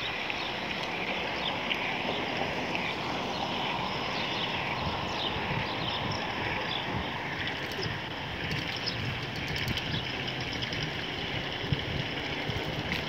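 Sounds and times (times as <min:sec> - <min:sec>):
bicycle tyres rolling on pavement: 0:00.0 - 0:13.0
wind rush: 0:00.0 - 0:13.0.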